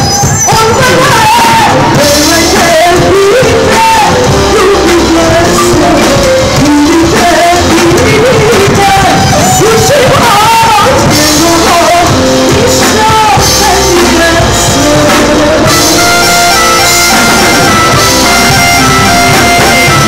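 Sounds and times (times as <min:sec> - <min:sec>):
loud distorted rock music with singing: 0:00.0 - 0:20.0.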